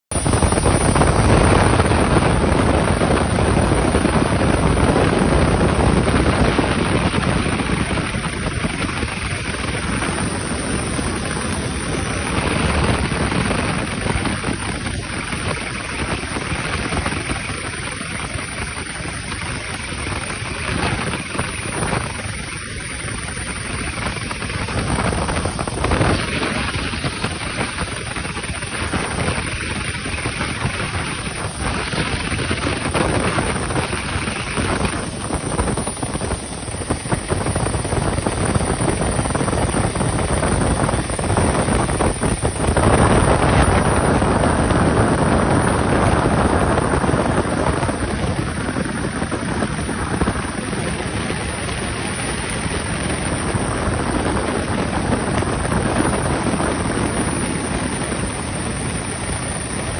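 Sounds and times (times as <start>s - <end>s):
jet engines roaring: 0.1s - 59.9s.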